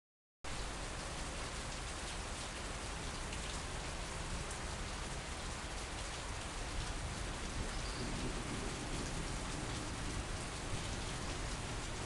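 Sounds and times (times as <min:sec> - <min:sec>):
rain on foliage and paving: 0:00.5 - 0:12.0.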